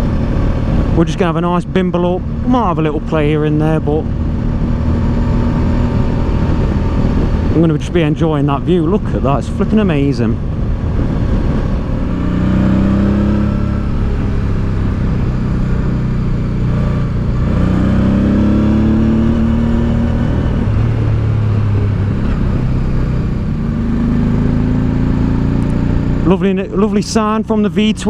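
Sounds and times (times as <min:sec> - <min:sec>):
motorcycle engine accelerating: 0:00.0 - 0:28.0
wind and road rush: 0:00.0 - 0:28.0.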